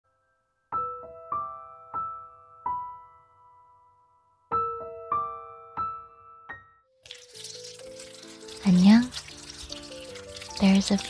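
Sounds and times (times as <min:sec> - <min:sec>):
soft piano melody: 0:00.1 - 0:11.0.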